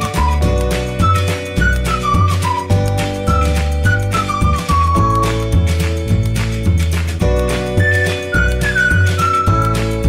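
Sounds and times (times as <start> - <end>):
music with bass beat and lead melody: 0.0 - 10.0.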